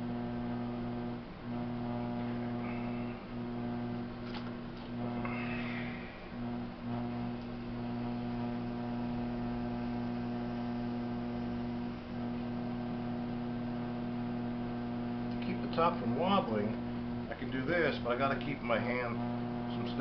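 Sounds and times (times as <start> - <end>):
potter's wheel motor hum: 0.0 - 20.0.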